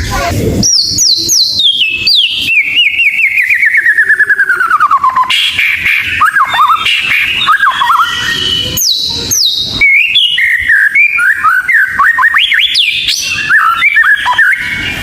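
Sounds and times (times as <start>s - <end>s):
bird singing whistled phrases: 0.6s - 15.0s.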